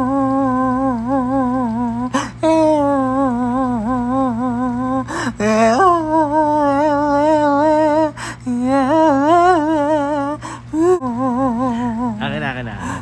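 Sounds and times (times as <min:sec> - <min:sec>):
person humming: 0:00.0 - 0:13.0.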